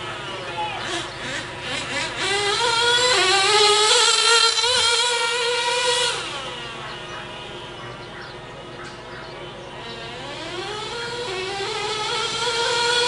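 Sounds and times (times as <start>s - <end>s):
model engine revving high whine: 0.0s - 13.0s.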